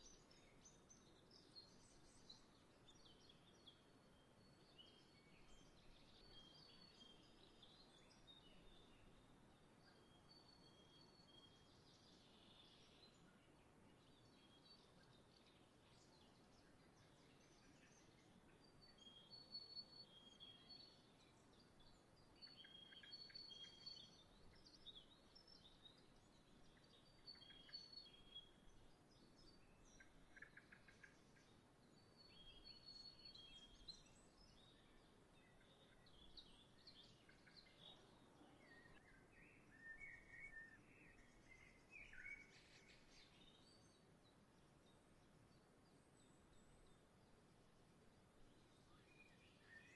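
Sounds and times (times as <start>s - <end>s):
small songbirds chirping: 0.0s - 49.9s
steady low background hiss: 0.0s - 49.9s.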